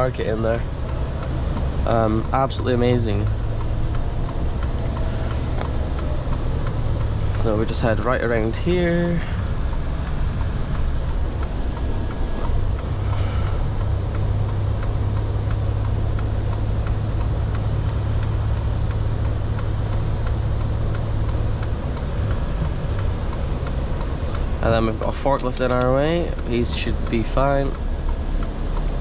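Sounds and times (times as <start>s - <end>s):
truck diesel engine droning: 0.0s - 29.0s.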